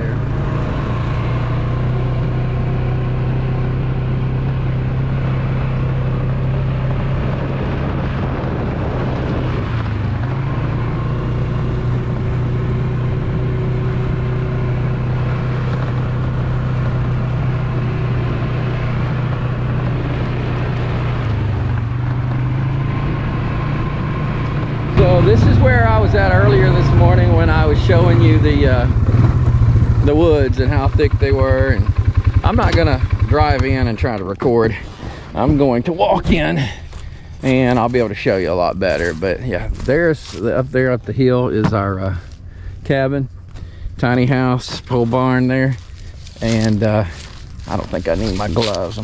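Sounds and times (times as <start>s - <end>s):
small vehicle engine humming: 0.0s - 49.0s.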